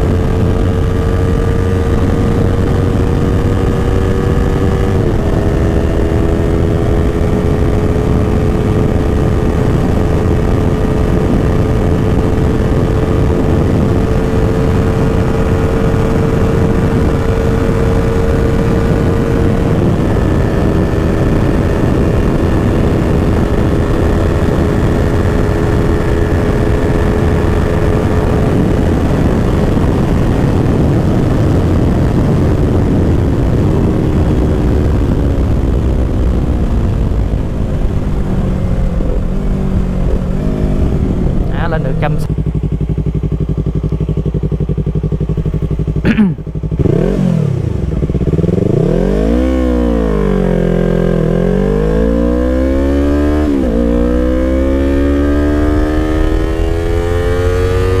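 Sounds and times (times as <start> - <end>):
motorcycle engine running hard: 0.0 - 58.0
wind rush on microphone: 0.0 - 58.0.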